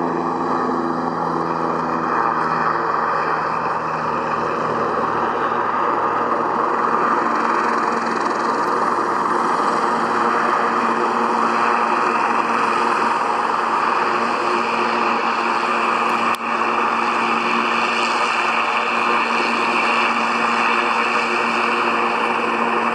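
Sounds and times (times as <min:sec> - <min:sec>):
propeller plane engine drone: 0:00.0 - 0:22.9.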